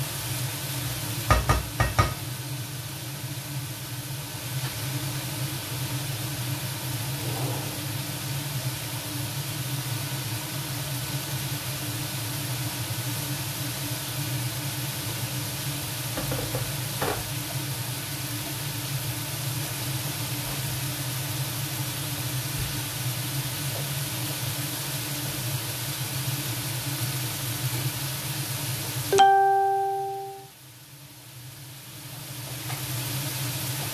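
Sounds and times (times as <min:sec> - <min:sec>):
food sizzling in a wok: 0:00.0 - 0:33.9.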